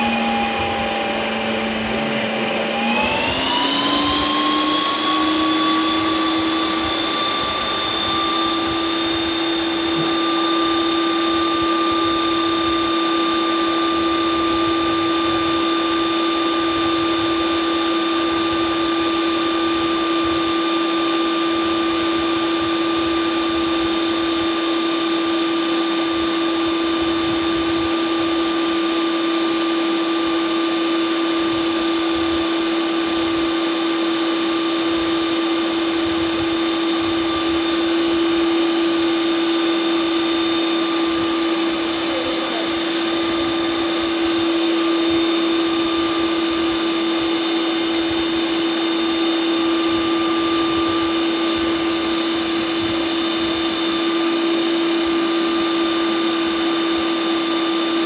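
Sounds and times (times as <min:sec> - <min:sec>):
ice cream maker motor humming: 0:00.0 - 0:58.0.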